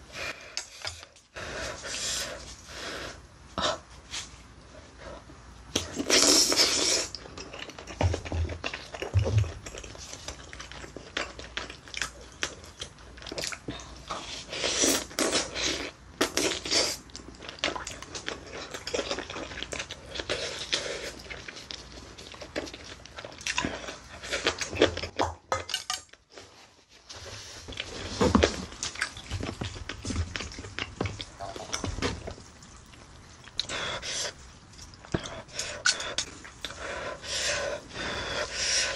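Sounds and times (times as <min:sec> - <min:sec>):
person chewing meat: 0:05.2 - 0:25.3, 0:27.4 - 0:38.9.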